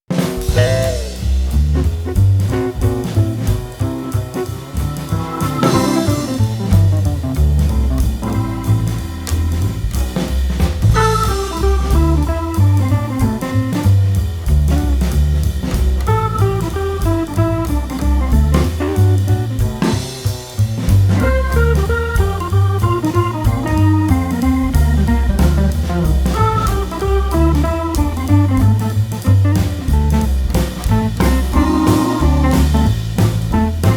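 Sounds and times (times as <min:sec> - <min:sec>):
jazzy blues band playing: 0:00.1 - 0:33.9.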